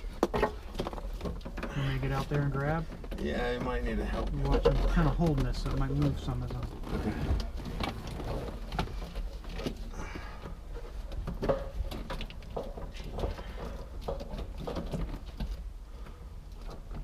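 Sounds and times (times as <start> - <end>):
rustling of wiring: 0.0 - 17.0.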